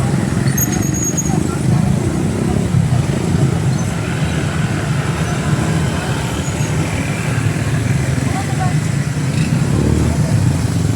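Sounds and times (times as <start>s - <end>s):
motor vehicles running close by: 0.0s - 10.9s
road traffic rumble: 0.0s - 10.9s.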